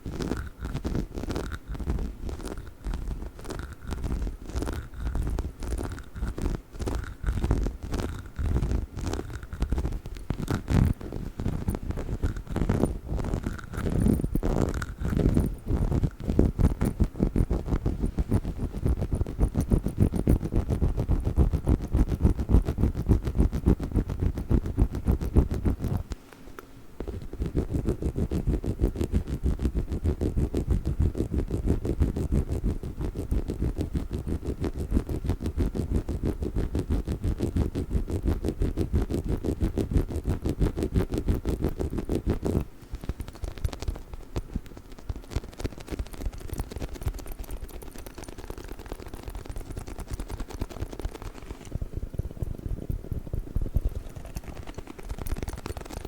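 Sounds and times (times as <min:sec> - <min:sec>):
tapping and scratching on dog toy: 0:00.0 - 0:56.0.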